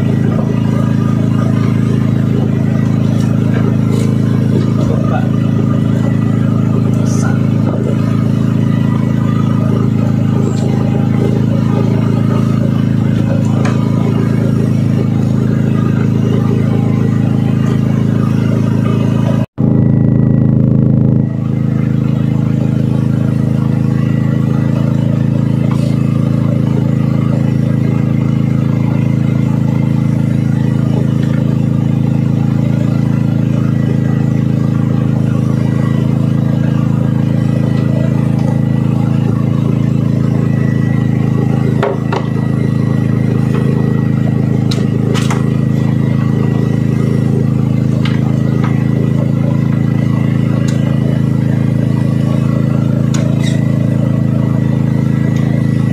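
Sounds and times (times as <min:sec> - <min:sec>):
boat engine droning: 0:00.0 - 0:55.9.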